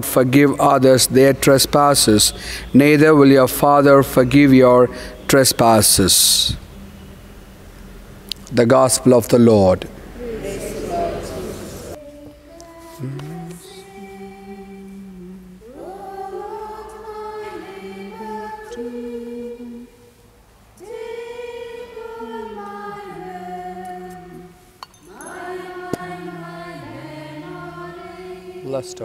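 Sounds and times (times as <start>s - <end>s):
hymn sung slowly: 0.0s - 29.0s.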